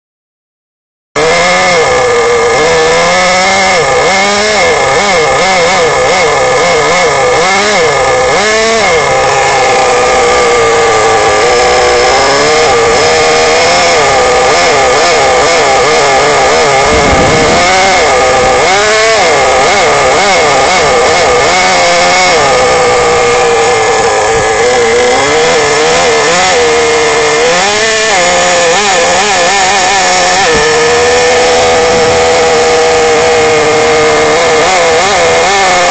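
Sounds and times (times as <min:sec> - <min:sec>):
small model engine revving: 0:01.2 - 0:35.9.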